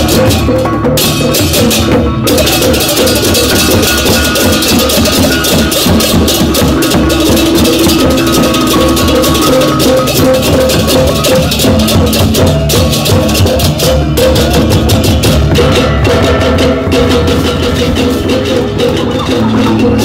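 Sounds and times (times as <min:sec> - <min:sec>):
drums: 0:00.0 - 0:20.0
hand cymbals clashing: 0:00.0 - 0:20.0
gong-chime tones: 0:02.3 - 0:20.0.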